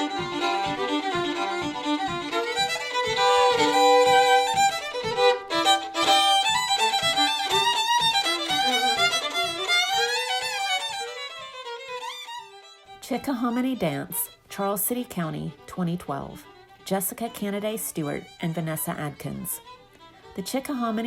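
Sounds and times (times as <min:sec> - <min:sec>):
fiddle tune: 0:00.0 - 0:21.0
rhythmic accompaniment: 0:00.0 - 0:21.0.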